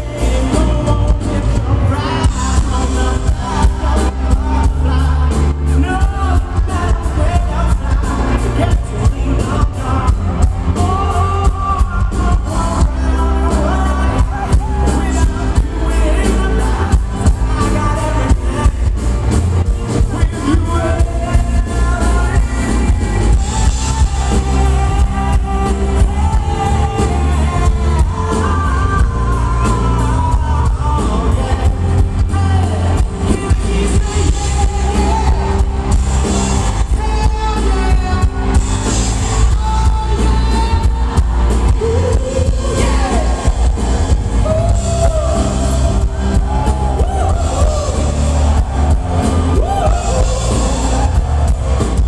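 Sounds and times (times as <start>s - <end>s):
heavy bass: 0.0s - 52.0s
lead singer singing: 0.0s - 52.0s
live pop-rock band playing: 0.0s - 52.0s.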